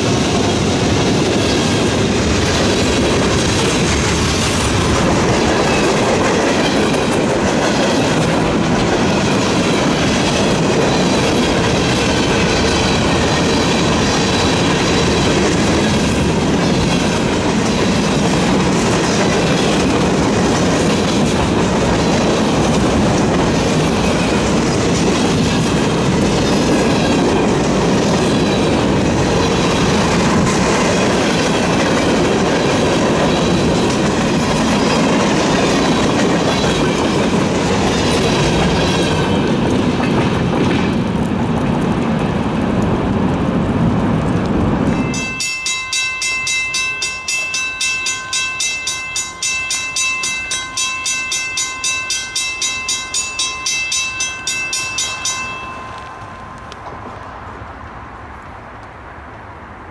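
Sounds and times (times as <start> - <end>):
freight cars rolling past: 0.0 - 59.9.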